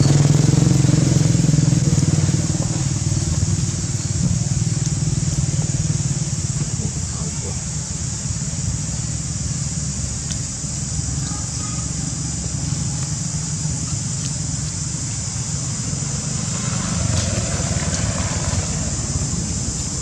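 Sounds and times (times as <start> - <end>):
constant high hiss: 0.0 - 20.0.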